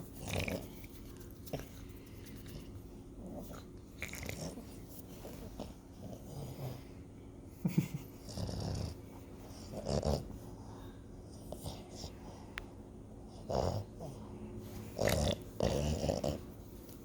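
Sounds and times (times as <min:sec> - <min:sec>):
dog breathing and grunting: 0:00.0 - 0:07.1, 0:08.2 - 0:12.5, 0:13.2 - 0:17.0.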